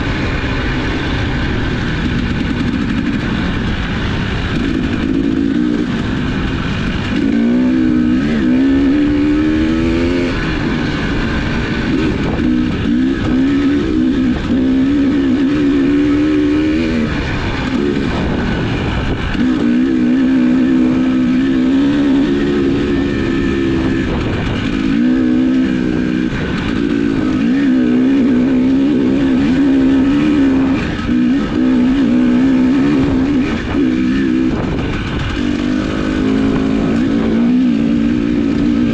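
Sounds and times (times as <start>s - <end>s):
off-road vehicle engine: 0.0s - 38.9s.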